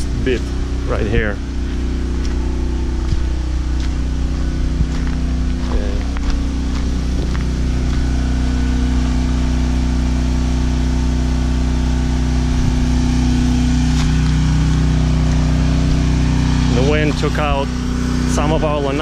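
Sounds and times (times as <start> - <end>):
generator engine running: 0.0 - 19.0.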